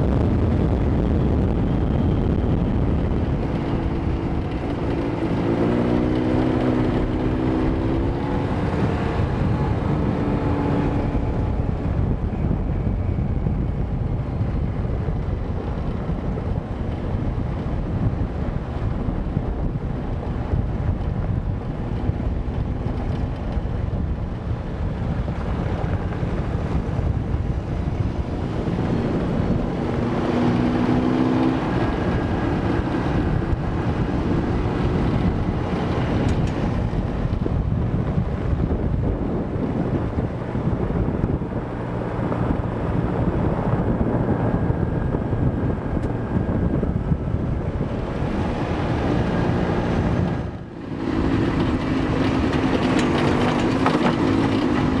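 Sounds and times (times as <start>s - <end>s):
off-road vehicle engine running: 0.0s - 55.0s
wind noise on microphone: 0.0s - 55.0s.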